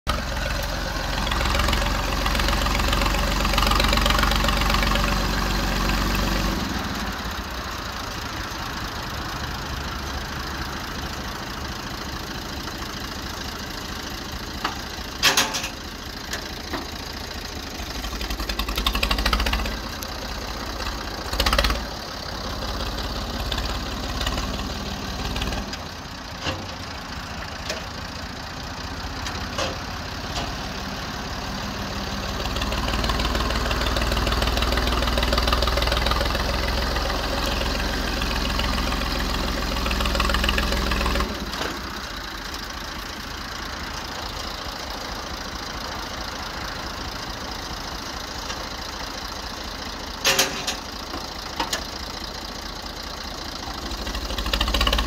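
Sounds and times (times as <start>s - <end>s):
tractor diesel engine working: 0.0s - 55.0s.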